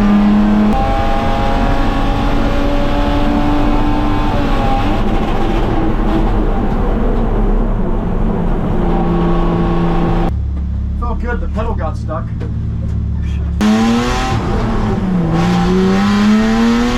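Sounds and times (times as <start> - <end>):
car engine pulling hard: 0.0 - 16.9.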